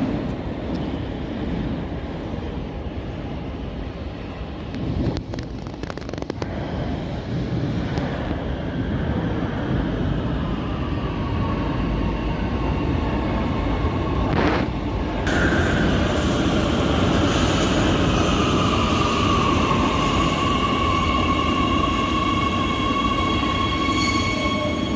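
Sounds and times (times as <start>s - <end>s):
train rumbling on rails: 0.0s - 24.9s.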